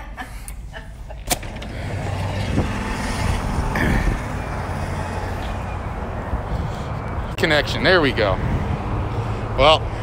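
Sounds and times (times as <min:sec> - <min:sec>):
road traffic rumble and hiss: 0:00.2 - 0:10.0.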